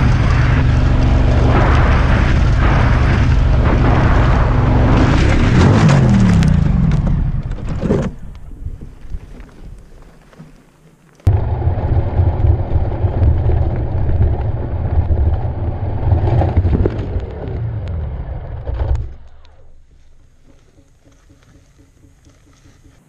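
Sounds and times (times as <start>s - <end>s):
motorcycle engine rumbling: 0.0s - 10.5s, 11.2s - 23.0s.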